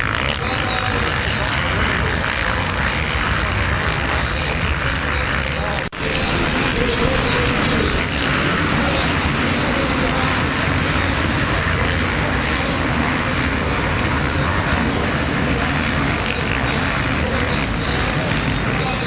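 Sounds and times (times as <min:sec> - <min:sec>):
motocross bike engines: 0:00.0 - 0:19.0.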